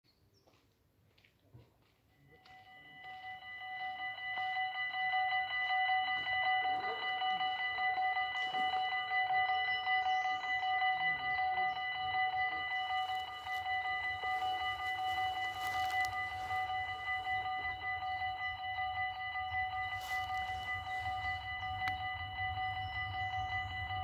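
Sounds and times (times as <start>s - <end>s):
level crossing bells ringing: 2.1s - 24.0s.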